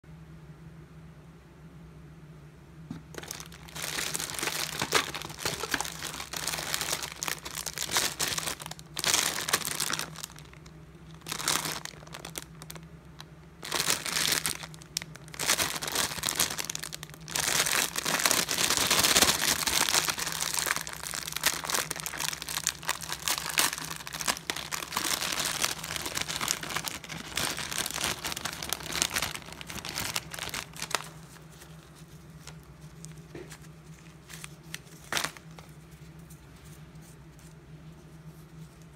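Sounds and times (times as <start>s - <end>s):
plastic packaging crinkling: 2.9s - 37.6s.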